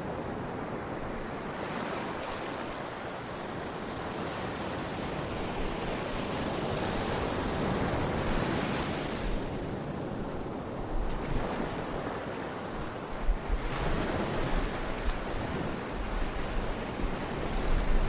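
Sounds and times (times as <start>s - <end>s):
sea waves washing on beach: 0.0s - 18.0s.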